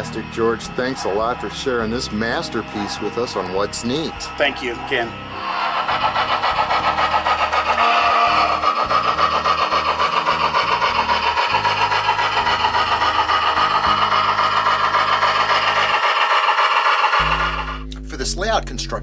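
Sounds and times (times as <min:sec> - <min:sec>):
model steam locomotive chuffs: 0:00.0 - 0:17.8.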